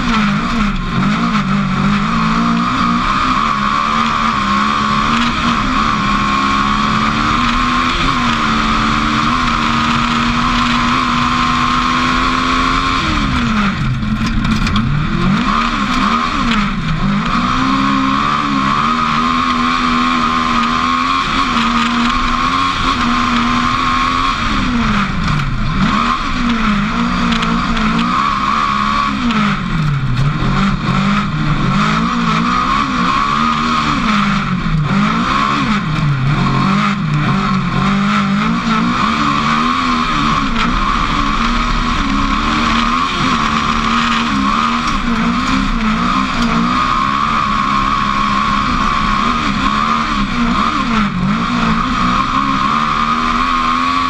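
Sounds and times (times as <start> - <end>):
race car engine accelerating: 0.0 - 54.0
steady high whine: 0.0 - 54.0.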